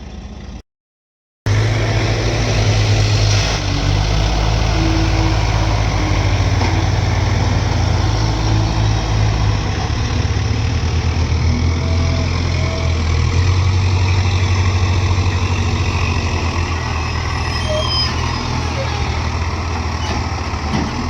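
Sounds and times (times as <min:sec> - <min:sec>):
heavy diesel machinery running: 0:01.5 - 0:21.0.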